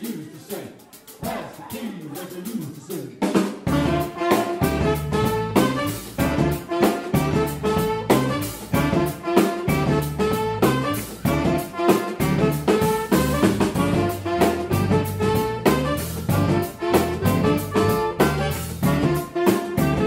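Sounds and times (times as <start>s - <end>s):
funk music with horns: 0.0s - 20.0s.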